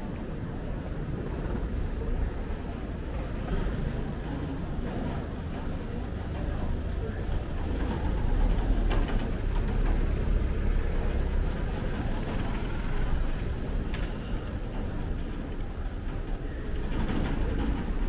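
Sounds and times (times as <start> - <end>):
slow traffic engine rumble: 0.0 - 18.0.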